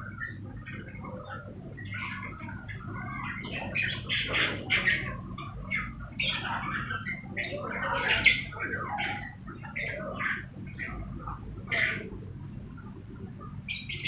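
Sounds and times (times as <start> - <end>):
birds squawking and chattering: 0.0 - 14.0.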